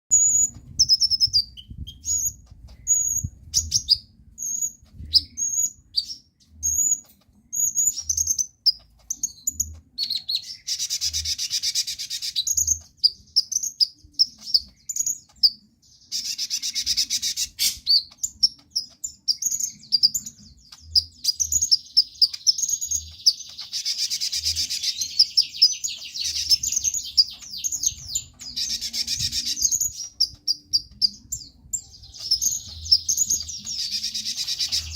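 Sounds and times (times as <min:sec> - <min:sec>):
small bird chirping and trilling: 0:00.1 - 0:34.9.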